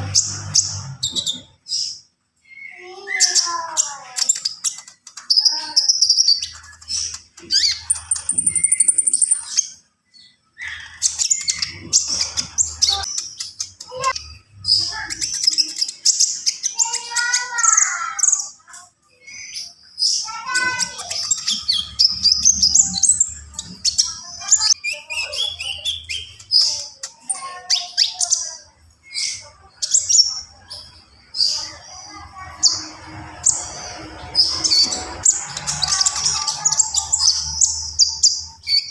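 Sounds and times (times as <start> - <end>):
bird chirping and twittering: 0.0 - 38.9.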